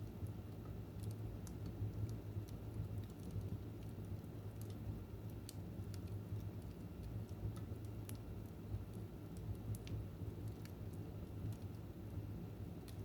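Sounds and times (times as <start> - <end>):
low steady hum: 0.0 - 13.0
wood fire crackling: 0.0 - 13.0.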